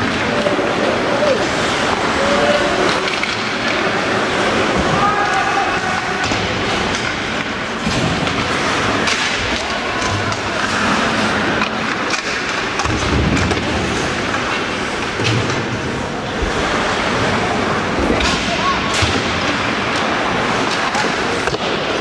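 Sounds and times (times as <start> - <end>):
skates scraping on ice: 0.0 - 22.0
spectators' voices: 0.0 - 22.0
sticks and puck clacking: 0.0 - 22.0.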